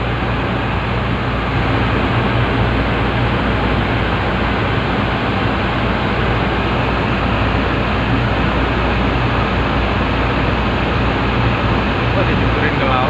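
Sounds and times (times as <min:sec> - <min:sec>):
machine humming and hissing: 0:00.0 - 0:13.0.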